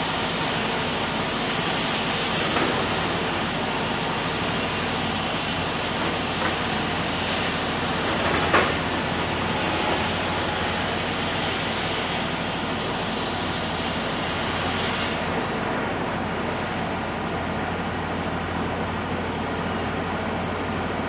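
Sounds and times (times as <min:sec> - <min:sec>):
diesel machinery low hum: 0:00.0 - 0:21.0.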